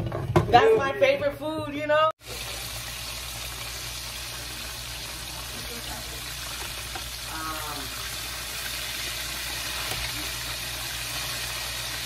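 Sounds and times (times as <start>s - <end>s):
chicken sizzling in hot oil: 2.2s - 12.0s.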